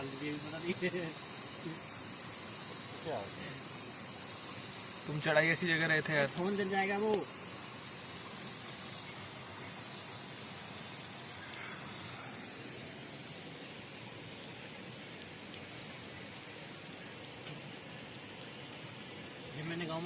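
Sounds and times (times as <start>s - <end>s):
steam hissing from pressure cooker: 0.0s - 20.0s.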